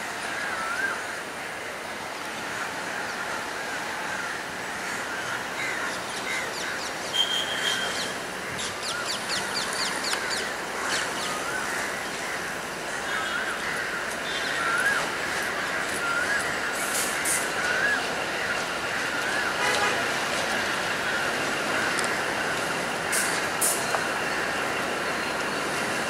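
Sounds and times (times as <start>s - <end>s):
birds calling: 2.5s - 26.0s
diesel train running: 4.4s - 26.0s.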